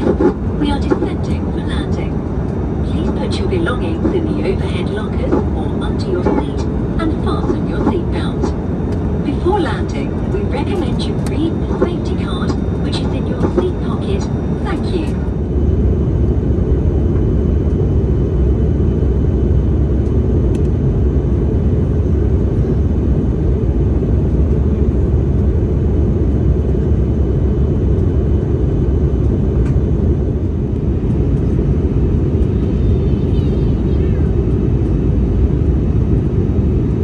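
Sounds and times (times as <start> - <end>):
airliner cabin engine rumble: 0.0 - 37.0.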